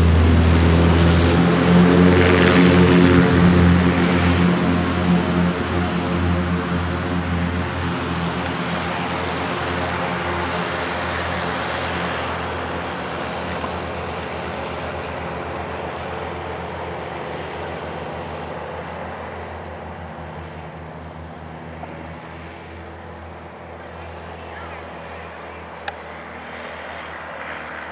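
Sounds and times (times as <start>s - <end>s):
propeller plane engine: 0.0s - 27.9s.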